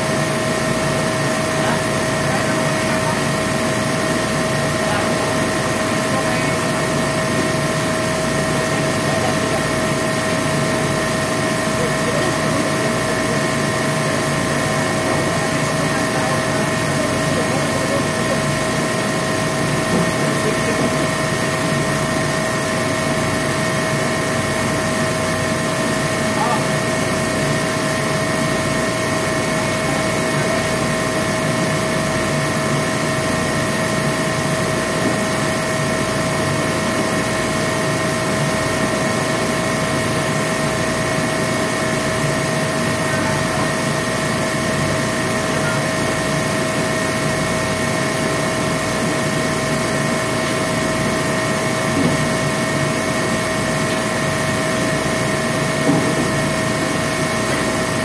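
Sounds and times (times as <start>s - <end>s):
machinery running steadily: 0.0s - 58.0s.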